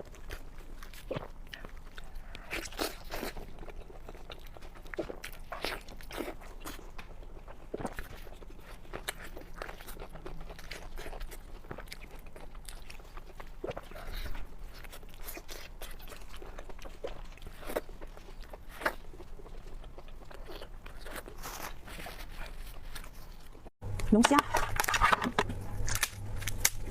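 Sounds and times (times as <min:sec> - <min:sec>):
crunchy eating and chewing: 0:00.0 - 0:26.9.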